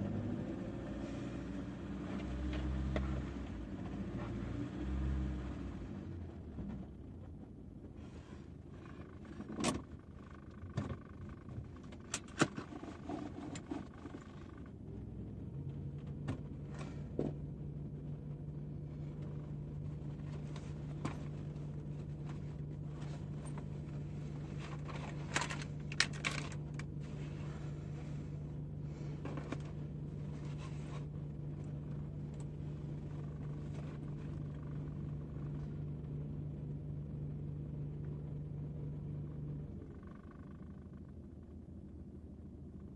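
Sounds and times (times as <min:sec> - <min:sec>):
low steady hum: 0:05.4 - 0:42.9.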